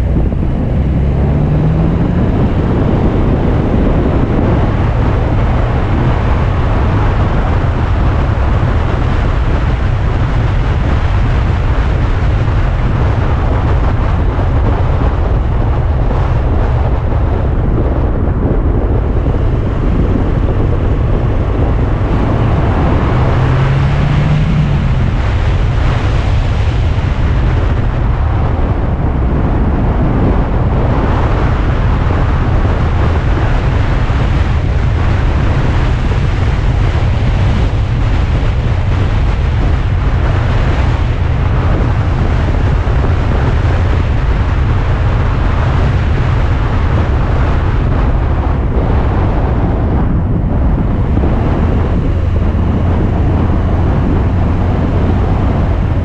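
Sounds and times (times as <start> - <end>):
car engine and tyre rumble: 0.0 - 56.0
wind buffeting microphone: 0.0 - 56.0.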